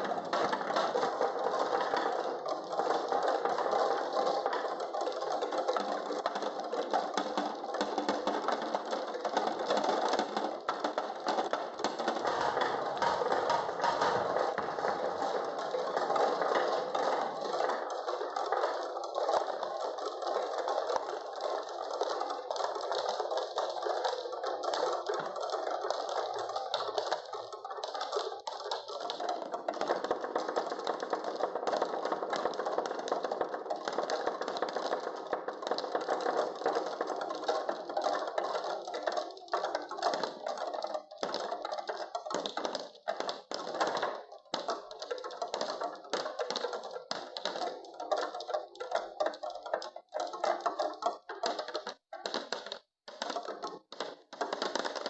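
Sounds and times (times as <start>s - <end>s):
marbles rattling on wooden tracks: 0.0s - 55.0s.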